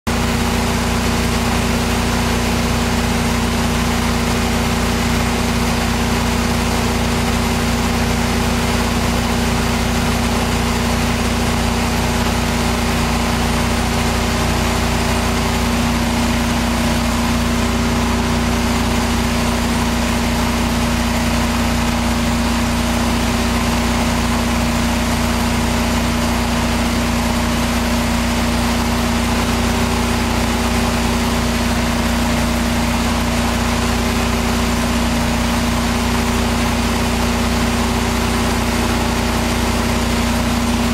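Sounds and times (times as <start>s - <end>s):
pressure washer engine running: 0.1s - 40.9s.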